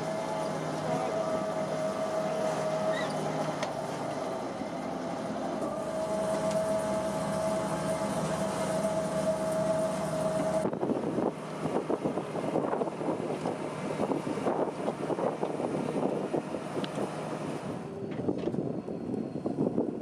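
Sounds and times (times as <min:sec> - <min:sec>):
machine humming and whining: 0:00.0 - 0:20.0.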